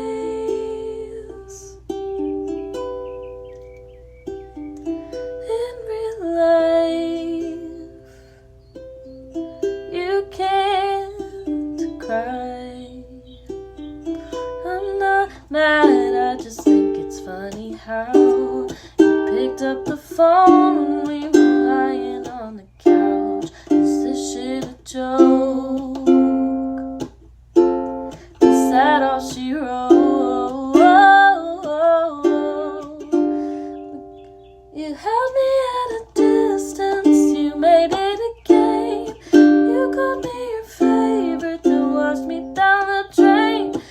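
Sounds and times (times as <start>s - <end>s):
woman singing: 0.0s - 2.3s, 4.8s - 8.2s, 9.2s - 27.1s, 28.0s - 43.9s
ukulele strumming: 0.0s - 43.9s.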